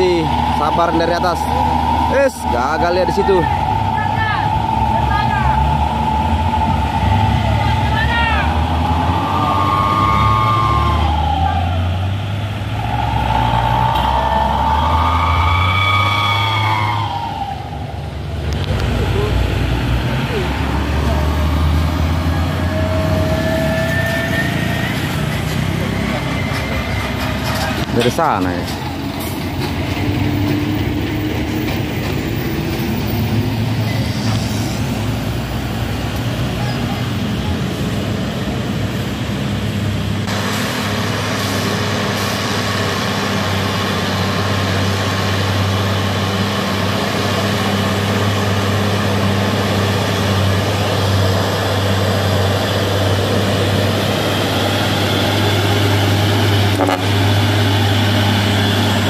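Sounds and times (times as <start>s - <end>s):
truck diesel engine under load: 0.0s - 59.0s.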